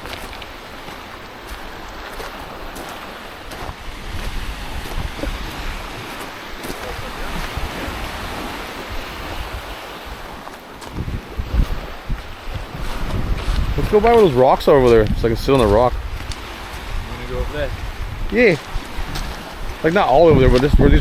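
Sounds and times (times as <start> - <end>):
small waves washing over rocks: 0.0 - 21.0
wind buffeting microphone: 0.0 - 21.0.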